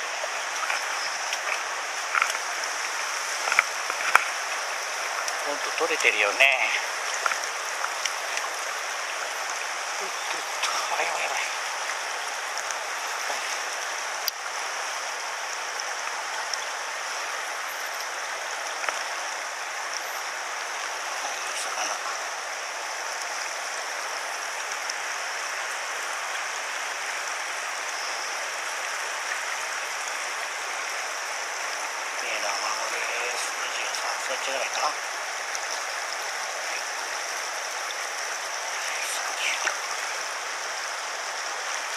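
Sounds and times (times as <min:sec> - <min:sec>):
stream running over stones: 0:00.0 - 0:41.9.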